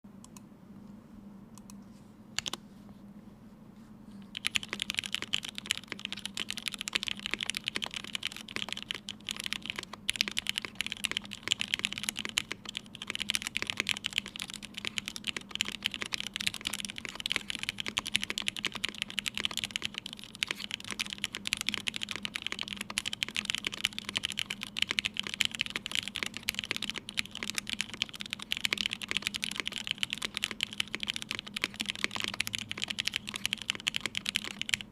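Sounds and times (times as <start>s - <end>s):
typing on mechanical keyboard: 2.4s - 2.6s, 4.3s - 34.9s.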